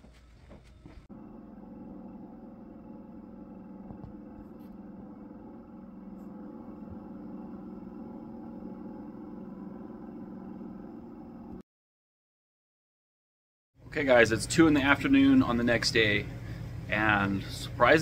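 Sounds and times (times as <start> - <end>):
low mechanical hum: 0.0 - 11.6, 13.8 - 18.0.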